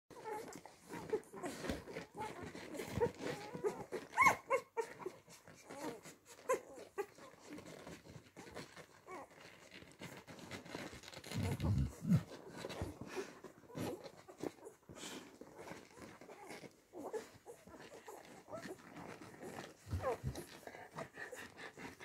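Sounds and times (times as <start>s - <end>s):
puppies squeaking and whimpering: 0.1s - 22.0s.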